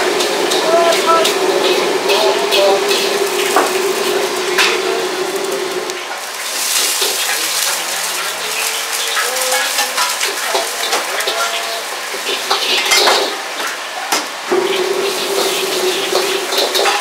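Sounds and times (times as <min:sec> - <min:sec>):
kitchen clatter: 0:00.0 - 0:17.0
kitchen hum: 0:00.0 - 0:17.0
oil bubbling and sizzling: 0:00.0 - 0:17.0.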